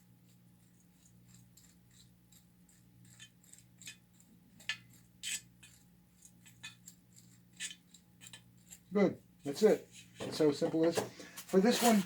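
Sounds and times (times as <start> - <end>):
mortar mix scraping: 0.0 - 12.0.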